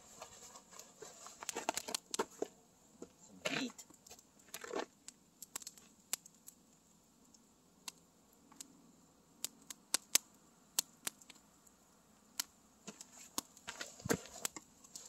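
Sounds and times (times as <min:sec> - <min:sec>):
campfire crackling and popping: 0:00.0 - 0:15.0
faint background hiss: 0:00.0 - 0:15.0.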